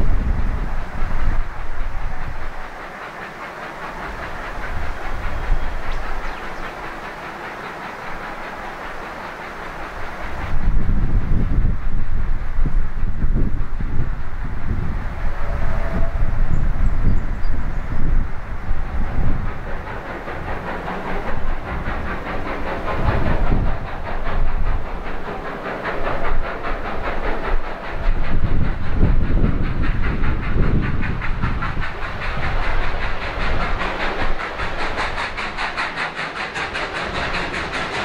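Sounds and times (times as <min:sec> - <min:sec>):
steam hissing: 0:00.0 - 0:38.0
steam locomotive chuffing: 0:00.0 - 0:38.0.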